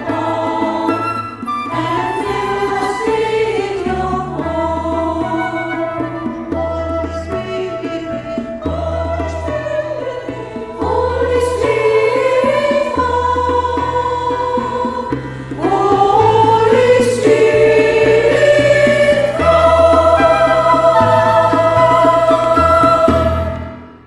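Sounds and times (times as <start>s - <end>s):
women's choir singing: 0.0s - 6.6s, 7.5s - 23.9s.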